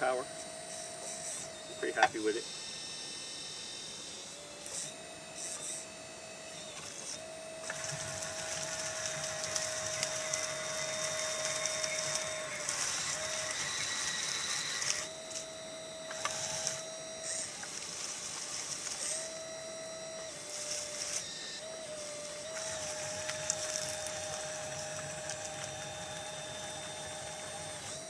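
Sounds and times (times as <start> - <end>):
electric motor whine: 0.0 - 28.0
steady hum: 0.0 - 28.0.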